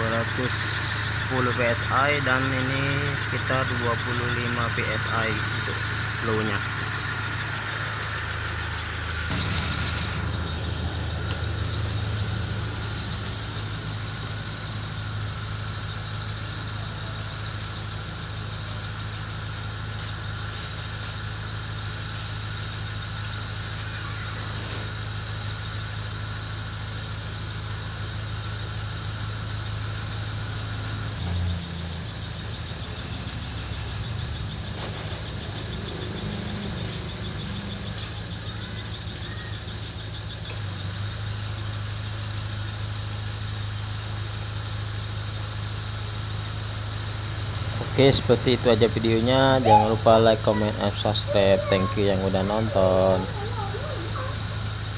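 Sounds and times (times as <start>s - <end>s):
car engine idling: 0.0s - 54.9s
high-pitched hiss: 0.0s - 54.9s.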